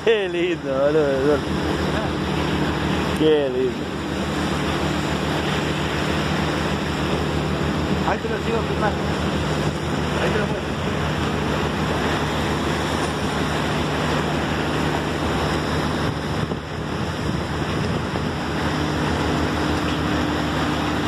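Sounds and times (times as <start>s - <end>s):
boat engine running: 0.0s - 21.0s
water rushing along hull: 0.0s - 21.0s
wind buffeting microphone: 0.0s - 21.0s.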